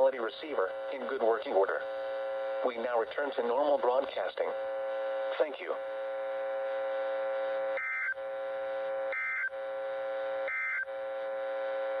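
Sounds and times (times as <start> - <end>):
steady buzz: 0.0 - 12.0.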